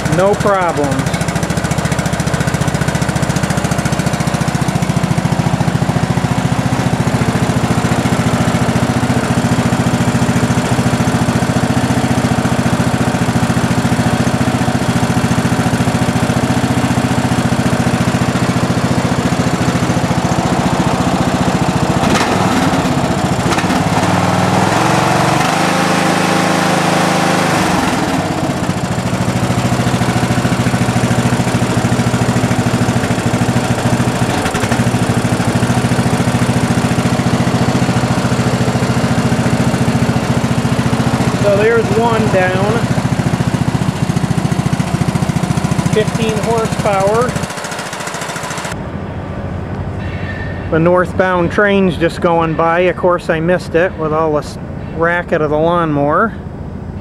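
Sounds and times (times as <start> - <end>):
lawn tractor engine running: 0.0 - 48.9.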